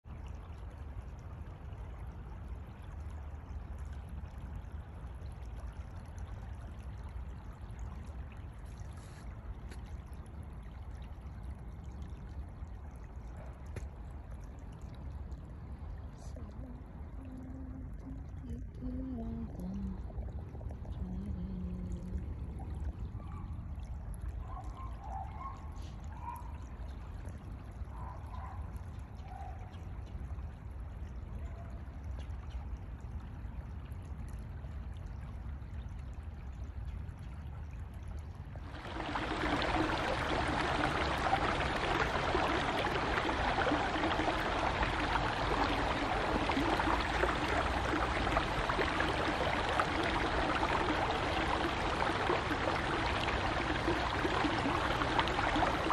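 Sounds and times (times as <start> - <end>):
creek water running over stones: 0.0 - 55.9.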